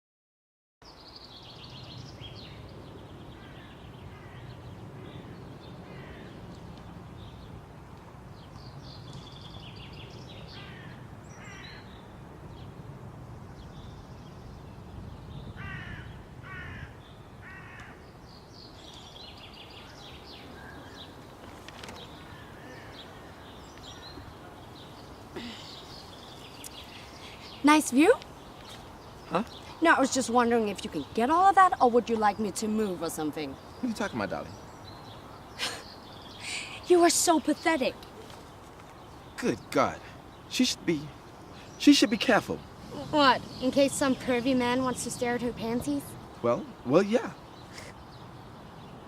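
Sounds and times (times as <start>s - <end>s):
birds chirping: 0.8s - 49.0s.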